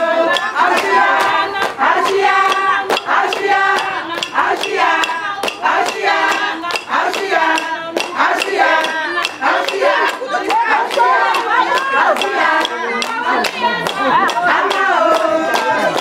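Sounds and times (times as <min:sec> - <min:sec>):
hand clapping beat: 0:00.0 - 0:16.0
voices singing: 0:00.0 - 0:16.0.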